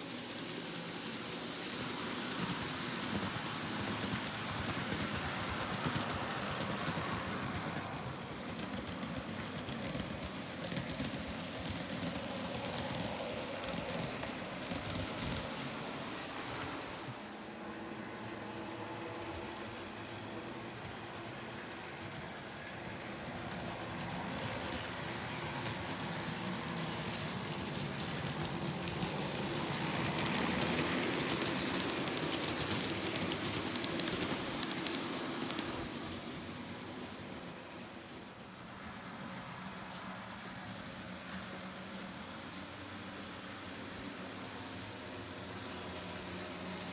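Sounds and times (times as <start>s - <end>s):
model train whirring: 0.0s - 46.9s
wheels clicking over rails: 0.0s - 46.9s.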